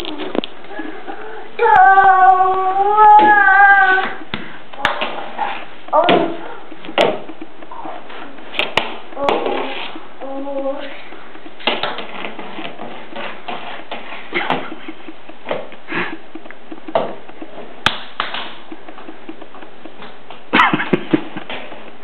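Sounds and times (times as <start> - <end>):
small footsteps: 4.0 - 22.0.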